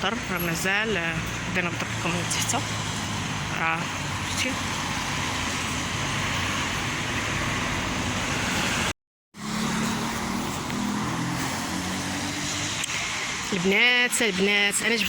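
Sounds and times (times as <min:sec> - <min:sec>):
road noise rushing: 0:00.0 - 0:15.0.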